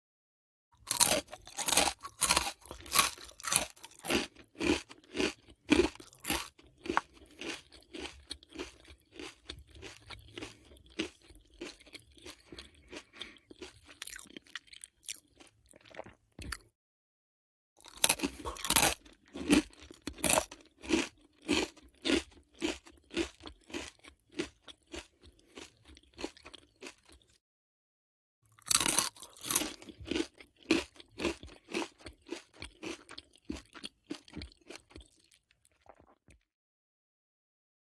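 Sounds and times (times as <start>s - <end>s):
potato chips crunching: 0.8s - 16.6s, 17.8s - 27.4s, 28.5s - 36.4s.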